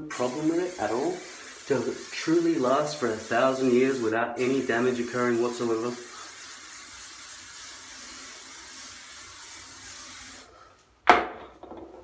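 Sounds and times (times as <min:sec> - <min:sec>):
aerosol can hissing: 0:00.0 - 0:10.6.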